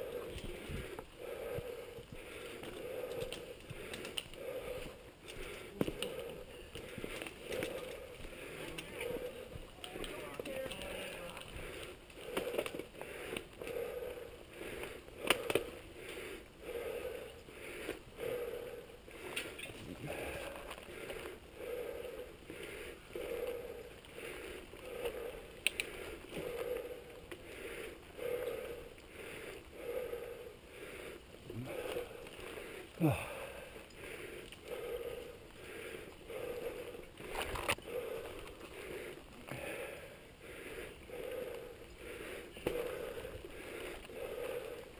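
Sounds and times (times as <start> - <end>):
rider breathing hard: 0.0 - 44.9.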